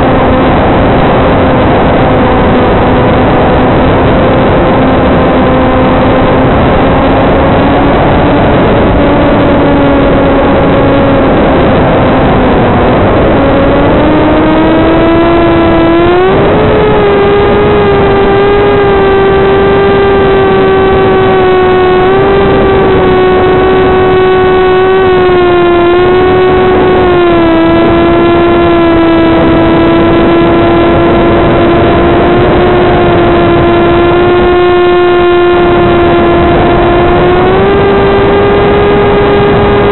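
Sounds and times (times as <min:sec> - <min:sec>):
electric motor and propeller humming: 0:00.0 - 0:39.9.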